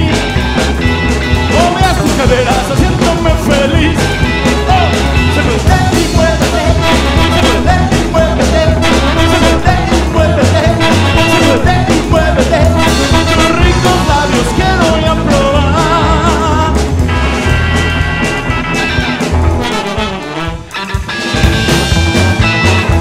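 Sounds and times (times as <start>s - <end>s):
rockabilly band playing live: 0.0s - 23.0s.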